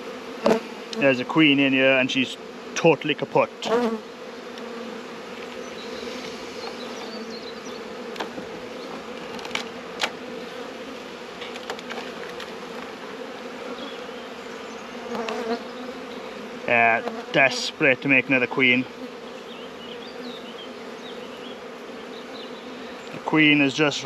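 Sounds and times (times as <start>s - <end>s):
honeybee colony humming: 0.0s - 24.0s.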